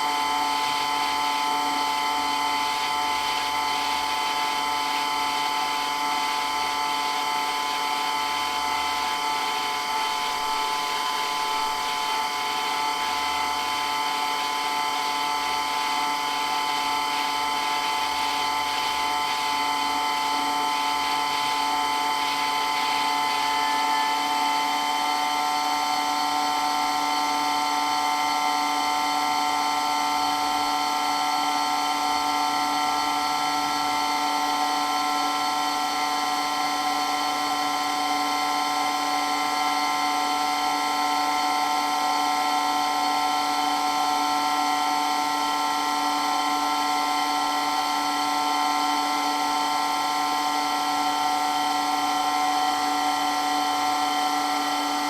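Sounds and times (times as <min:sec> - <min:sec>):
water pump whine: 0:00.0 - 0:55.0.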